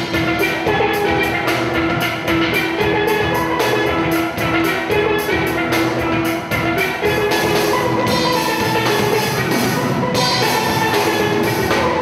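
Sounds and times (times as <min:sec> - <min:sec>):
drum kit beat: 0:00.0 - 0:12.0
steel pans playing melody: 0:00.0 - 0:12.0.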